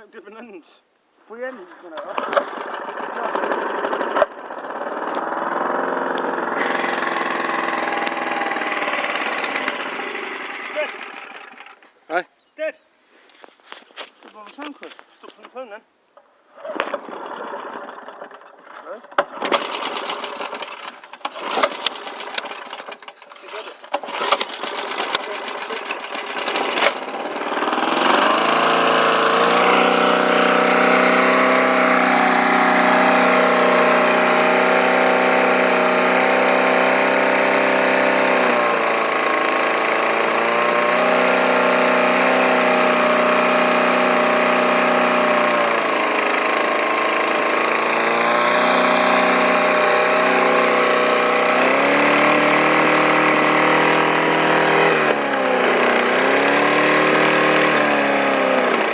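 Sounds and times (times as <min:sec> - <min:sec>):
lawn mower engine running: 0:01.7 - 0:12.0, 0:16.2 - 0:58.9.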